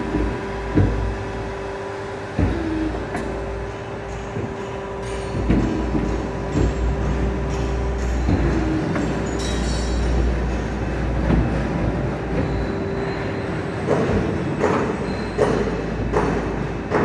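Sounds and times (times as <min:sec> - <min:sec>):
machine rumble and hum: 0:00.0 - 0:17.0.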